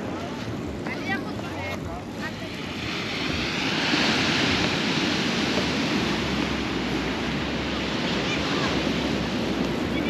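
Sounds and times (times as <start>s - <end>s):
sea surf breaking on shore: 0.0s - 10.0s.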